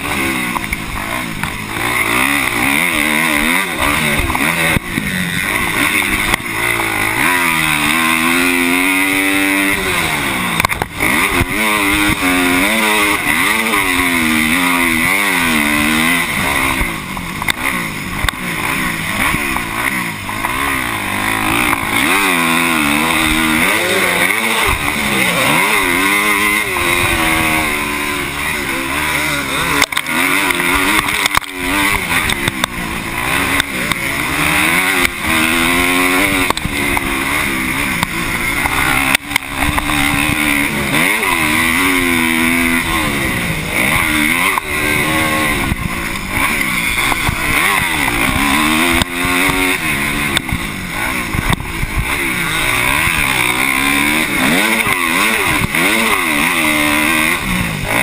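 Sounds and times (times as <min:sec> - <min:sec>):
motocross bike engine racing: 0:00.0 - 0:58.0.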